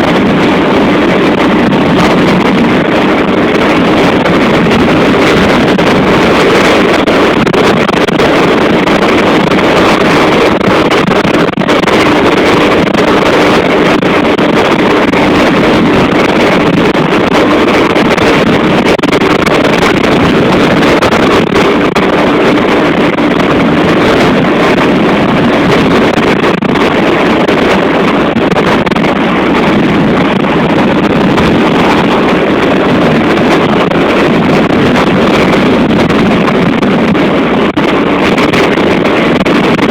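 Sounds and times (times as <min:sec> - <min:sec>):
strong wind roaring: 0:00.0 - 0:39.9.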